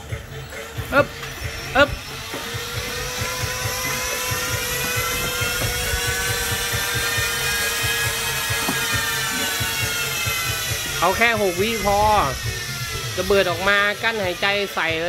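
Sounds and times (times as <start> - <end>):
bike trainers whining: 0.0 - 15.0.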